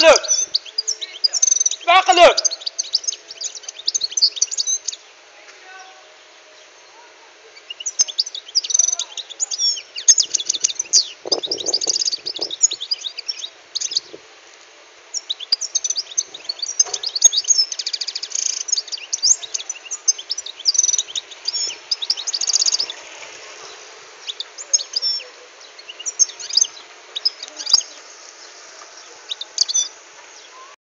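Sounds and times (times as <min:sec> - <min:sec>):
goldfinch singing: 0:00.0 - 0:05.2, 0:07.6 - 0:14.2, 0:15.1 - 0:30.7.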